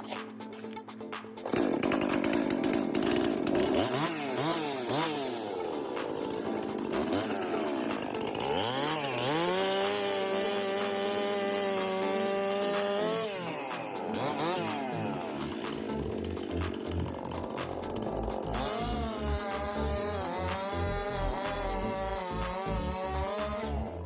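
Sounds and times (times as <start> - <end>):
chainsaw revving and cutting: 1.4 - 24.0.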